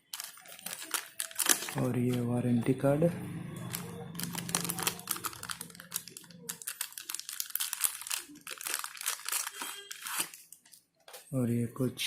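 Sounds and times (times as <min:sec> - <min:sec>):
paper rustling and crinkling: 0:00.0 - 0:02.3, 0:03.7 - 0:11.3.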